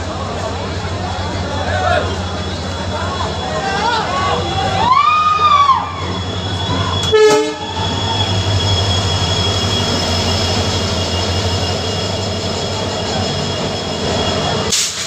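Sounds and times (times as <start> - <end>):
train wheels rumbling on rails: 0.0 - 15.0
high wheel squeal: 1.2 - 15.0.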